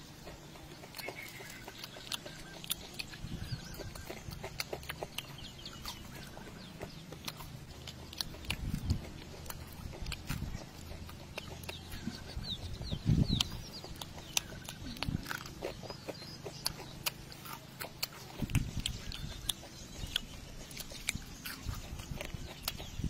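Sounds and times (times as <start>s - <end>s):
crunching fried fish: 0.0s - 23.0s
wet mouth sounds: 0.2s - 23.0s.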